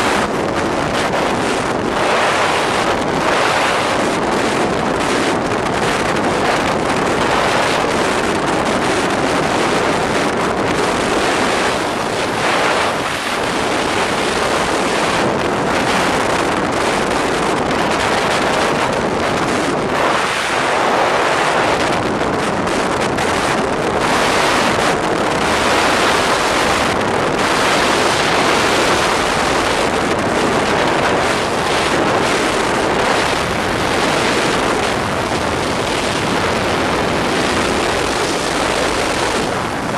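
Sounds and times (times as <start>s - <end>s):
rushing road noise: 0.0s - 39.9s
wind buffeting microphone: 0.0s - 39.9s.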